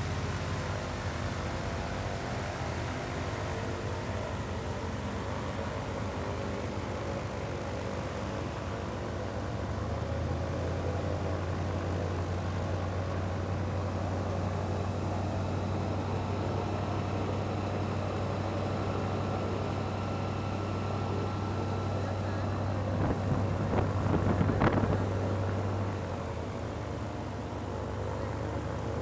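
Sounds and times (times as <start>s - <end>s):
airboat engine and propeller drone: 0.0s - 29.0s.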